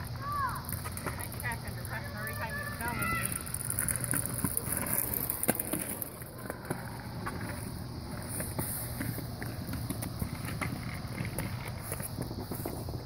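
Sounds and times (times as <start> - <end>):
scooter wheels rolling on concrete: 0.0 - 13.0.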